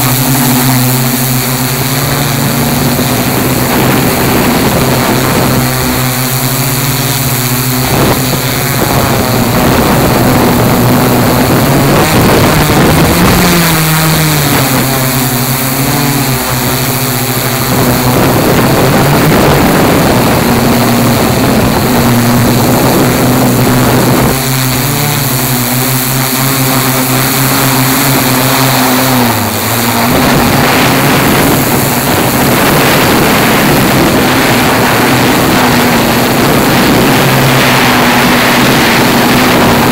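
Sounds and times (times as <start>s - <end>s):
drone motors humming: 0.0s - 39.9s
steady rushing hiss: 0.0s - 39.9s.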